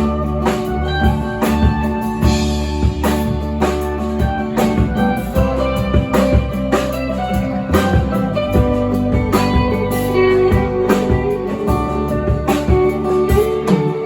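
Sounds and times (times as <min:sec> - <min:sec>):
bass: 0:00.0 - 0:14.0
drum kit beat: 0:00.0 - 0:14.0
lead guitar: 0:00.0 - 0:14.0.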